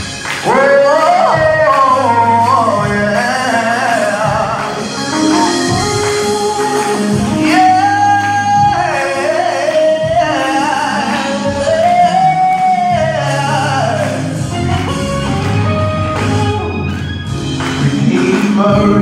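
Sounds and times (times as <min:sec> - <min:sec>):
instrumental backing with bass: 0:00.0 - 0:19.0
person singing gospel: 0:00.0 - 0:19.0.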